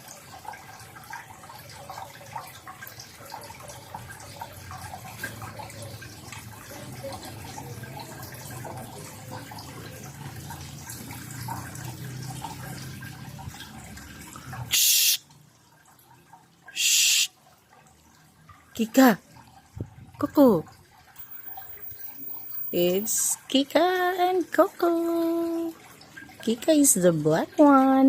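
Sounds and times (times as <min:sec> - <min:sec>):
water running and dripping: 0:00.0 - 0:28.0.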